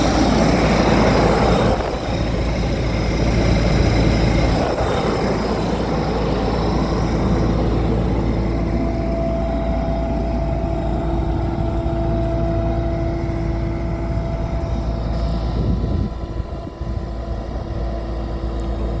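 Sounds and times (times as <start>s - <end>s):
constant whine: 0.0s - 19.0s
diesel engine running: 0.0s - 19.0s.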